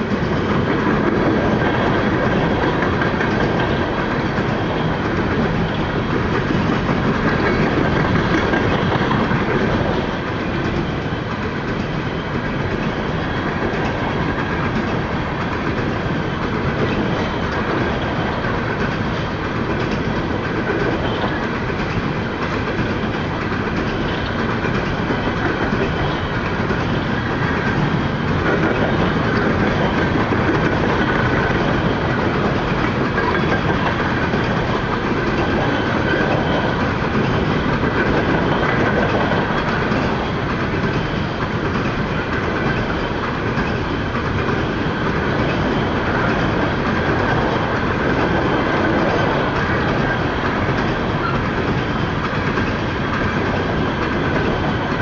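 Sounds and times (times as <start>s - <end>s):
train wheels running on rails: 0.0s - 55.0s.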